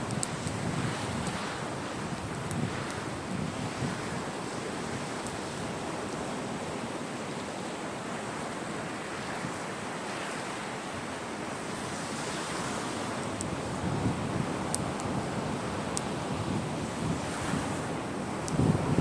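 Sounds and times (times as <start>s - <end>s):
sea surf washing in: 0.0s - 19.0s
wind: 0.0s - 19.0s.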